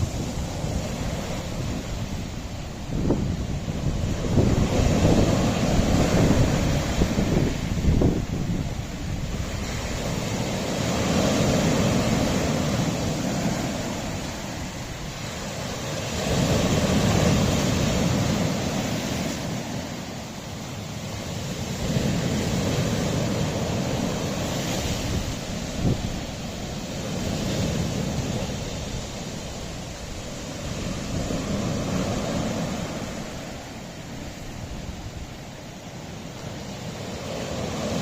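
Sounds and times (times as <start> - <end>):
waves washing on rocky shore: 0.0 - 38.0.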